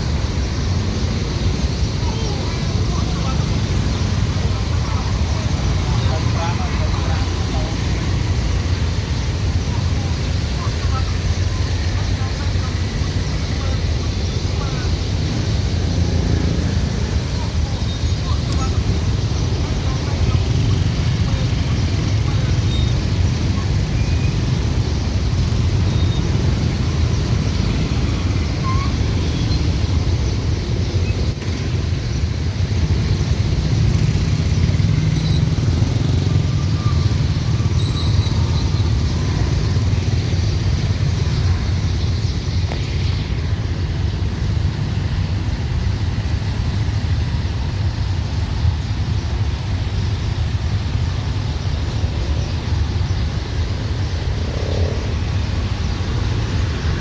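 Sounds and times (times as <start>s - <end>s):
motorbike and car engines passing: 0.0s - 57.0s.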